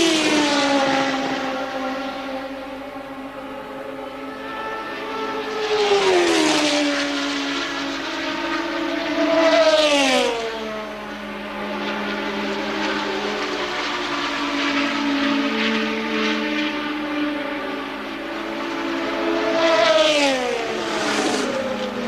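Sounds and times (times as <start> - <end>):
race cars passing at speed: 0.0 - 22.0.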